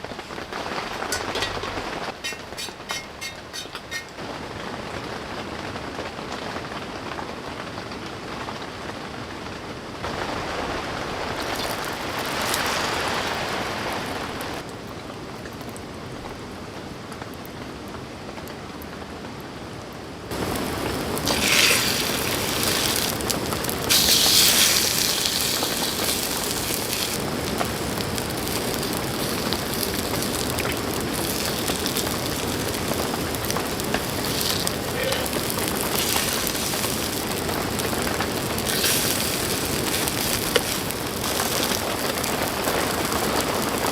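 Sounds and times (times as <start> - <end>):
rain falling on a tent: 0.0 - 43.9.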